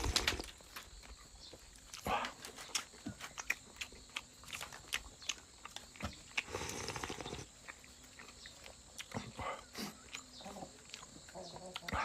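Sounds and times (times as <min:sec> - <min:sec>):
person chewing with lip smacks: 0:00.5 - 0:12.0.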